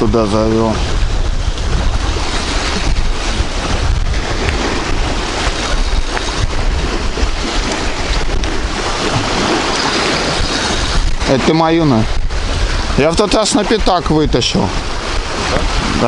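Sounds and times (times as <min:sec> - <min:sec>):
strong wind over microphone: 0:00.0 - 0:16.0.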